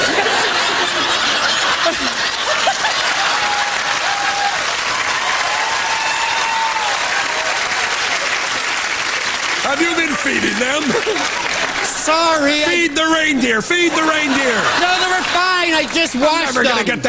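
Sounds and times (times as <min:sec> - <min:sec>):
audience laughing and applauding: 0:00.0 - 0:17.0.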